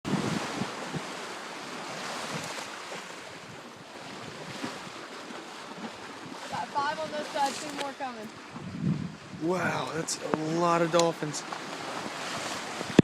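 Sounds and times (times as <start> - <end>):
wind buffeting microphone: 0.0 - 13.0
sea water rushing and splashing: 0.1 - 13.0.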